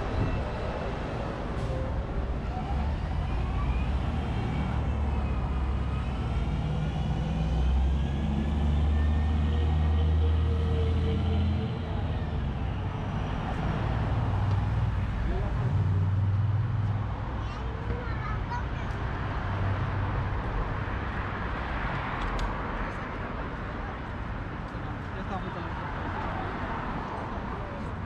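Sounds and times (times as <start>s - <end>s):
passing vehicle engine rumble: 0.0s - 28.0s.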